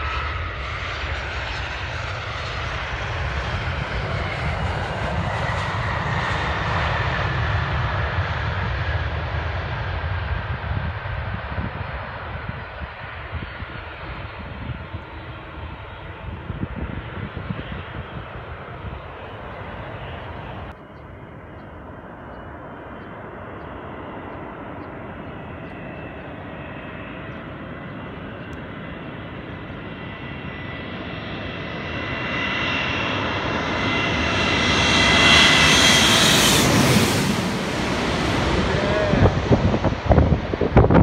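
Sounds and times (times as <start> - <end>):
distant jet on runway: 0.0 - 41.0
jet airliner passing overhead: 0.0 - 41.0.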